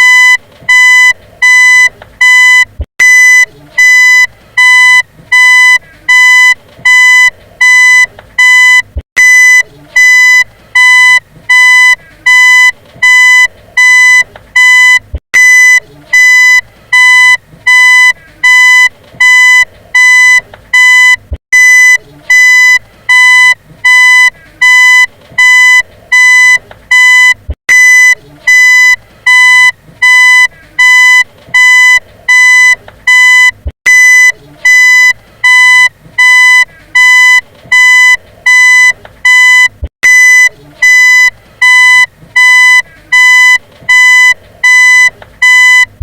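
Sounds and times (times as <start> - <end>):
reversing beeper: 0.0 - 46.0.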